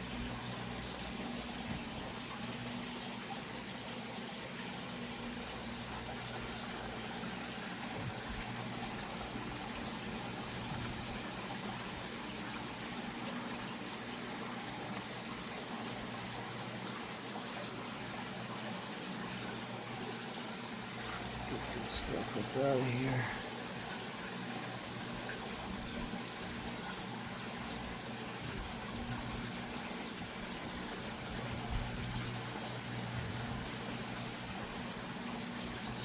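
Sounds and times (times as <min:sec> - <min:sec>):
water running and trickling: 0:00.0 - 0:36.0.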